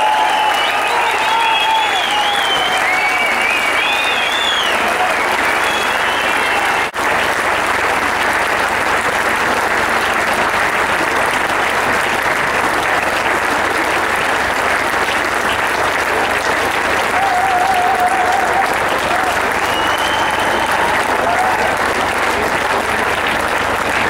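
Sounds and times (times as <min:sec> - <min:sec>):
large crowd applauding: 0:00.0 - 0:24.0.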